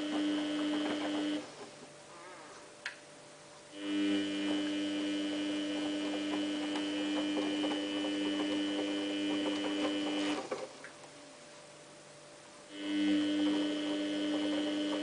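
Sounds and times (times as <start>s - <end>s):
washing machine electrical hum: 0.0s - 15.0s.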